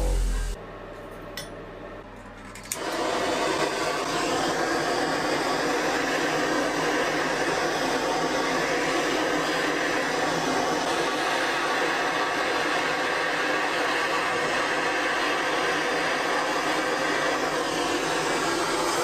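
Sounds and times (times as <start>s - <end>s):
power tool running: 0.0s - 0.6s, 2.7s - 19.0s.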